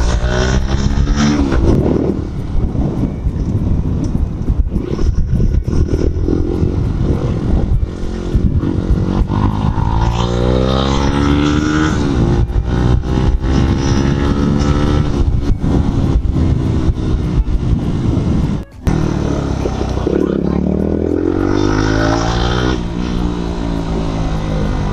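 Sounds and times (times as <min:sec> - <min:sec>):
motorcycle engine accelerating: 0:00.0 - 0:24.9
wind and road noise: 0:00.0 - 0:24.9.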